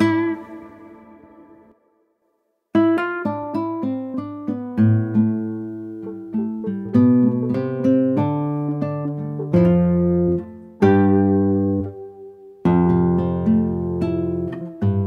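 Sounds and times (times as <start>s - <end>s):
nylon-string guitar plucking: 0.0s - 2.0s, 2.7s - 15.0s.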